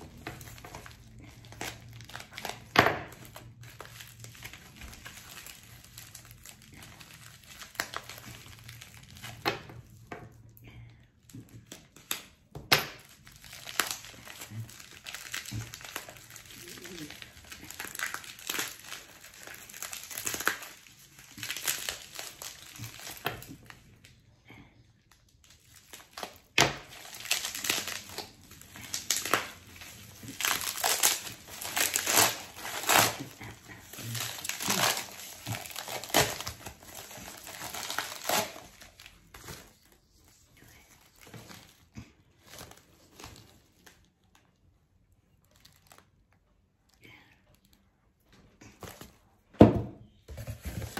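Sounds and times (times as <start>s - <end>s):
bubble wrap crinkling: 0.0s - 10.4s, 11.2s - 47.0s, 50.3s - 50.9s.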